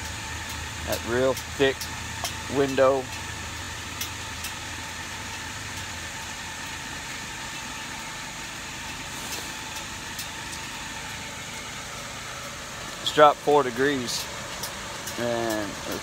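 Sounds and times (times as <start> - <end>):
blower whirring: 0.0 - 16.0.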